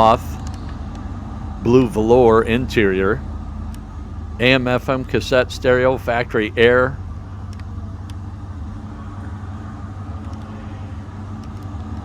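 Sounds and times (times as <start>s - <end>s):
low mechanical hum: 0.0s - 12.0s
room noise: 0.0s - 12.0s.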